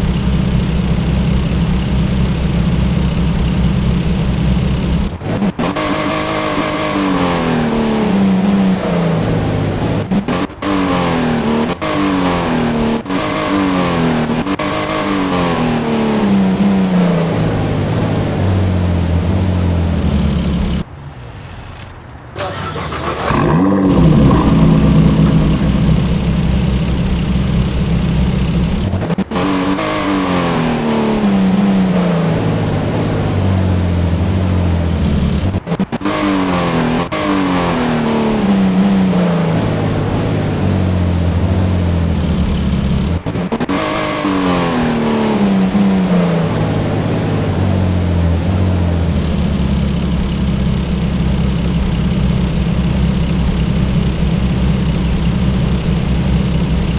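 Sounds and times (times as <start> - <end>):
car engine revving: 0.0 - 20.9, 22.4 - 56.9.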